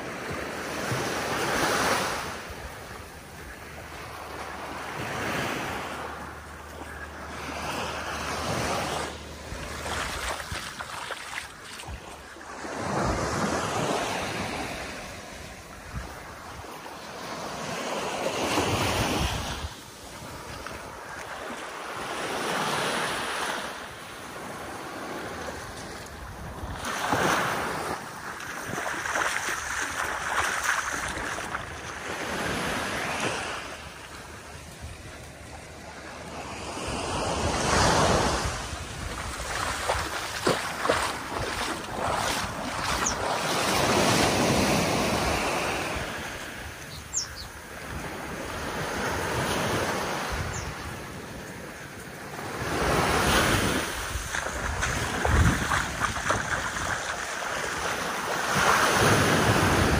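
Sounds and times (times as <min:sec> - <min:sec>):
small waves lapping on beach: 0:00.0 - 0:59.9.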